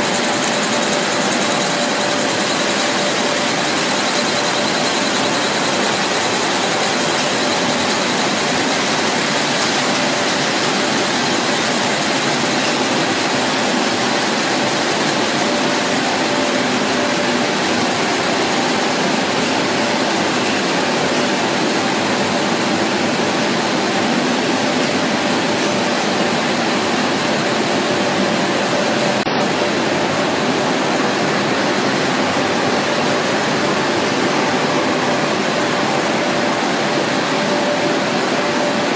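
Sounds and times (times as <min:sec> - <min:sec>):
machinery mechanical drone: 0:00.0 - 0:38.9.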